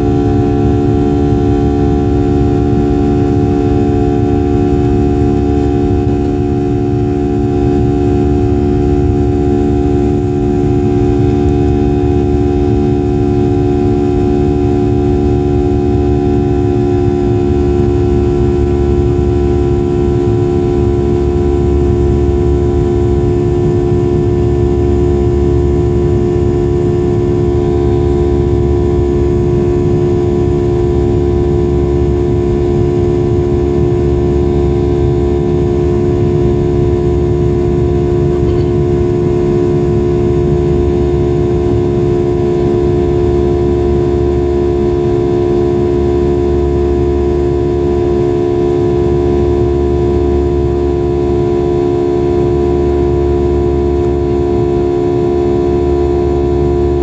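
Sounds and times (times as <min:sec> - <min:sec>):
jet engine rumble in cabin: 0:00.0 - 0:57.0.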